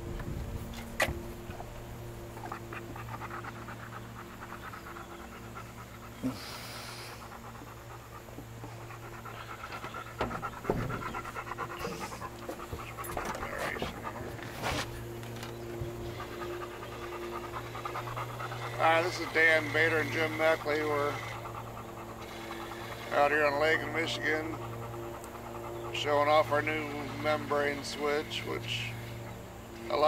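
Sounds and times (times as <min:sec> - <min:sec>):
low hum: 0:00.0 - 0:30.0
dog panting: 0:00.6 - 0:30.0.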